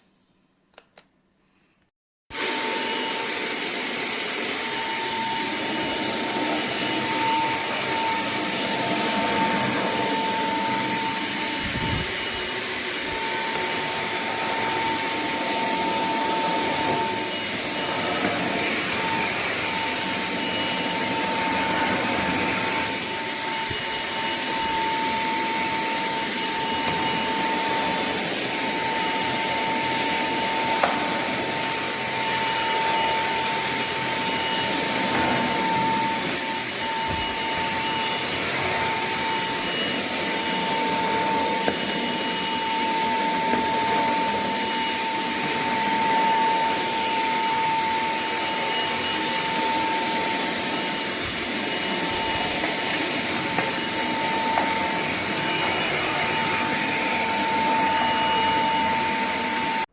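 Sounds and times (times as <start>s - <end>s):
handheld vacuum cleaner running: 2.3s - 59.9s.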